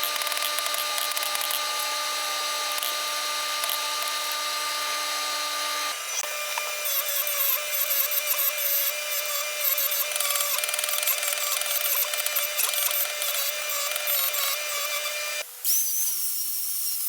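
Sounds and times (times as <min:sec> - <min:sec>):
electric grinder grinding steel: 0:00.0 - 0:17.0.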